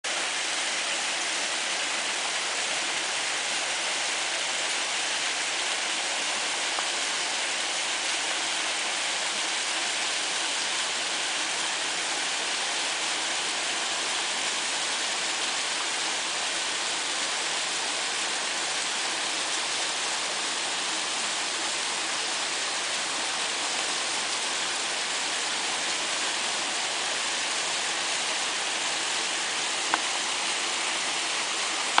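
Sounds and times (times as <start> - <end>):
waterfall rushing into pool: 0.1 - 32.0.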